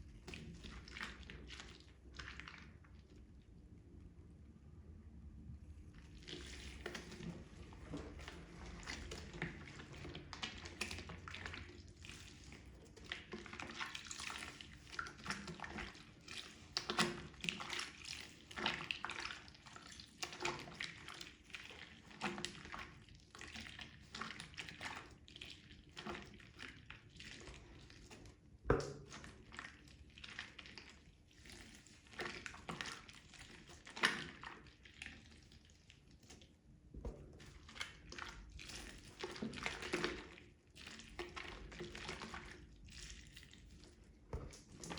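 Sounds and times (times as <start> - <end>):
sponge squelching in water: 0.0 - 3.8, 5.6 - 44.9.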